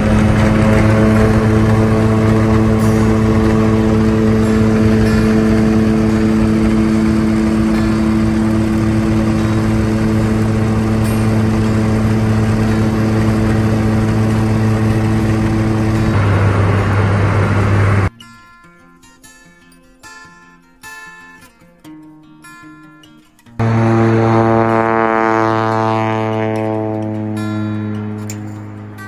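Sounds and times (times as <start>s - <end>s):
floatplane engine and propeller droning: 0.0s - 18.1s, 23.6s - 29.0s.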